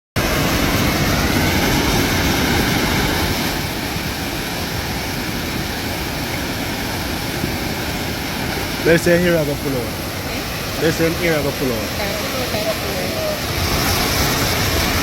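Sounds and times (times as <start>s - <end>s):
water rushing over rocks: 0.2s - 15.0s.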